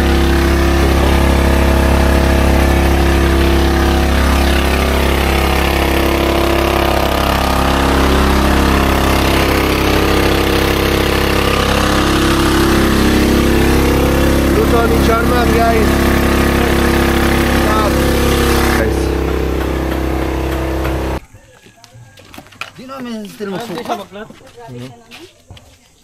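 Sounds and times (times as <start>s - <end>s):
boat engine humming: 0.0s - 21.2s.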